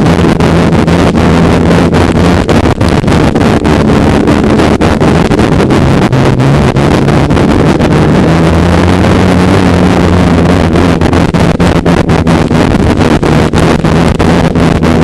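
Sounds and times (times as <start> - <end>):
snowmobile engine running: 0.0 - 15.0
wind rushing over microphone: 0.0 - 15.0.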